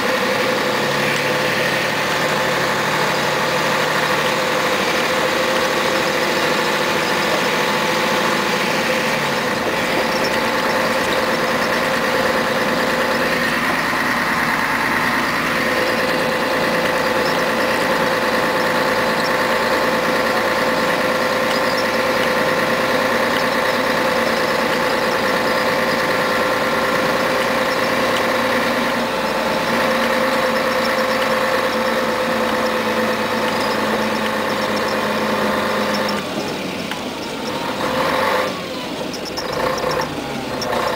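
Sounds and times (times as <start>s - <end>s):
bus diesel engine running: 0.0s - 40.9s
steady whining tone: 0.0s - 40.9s.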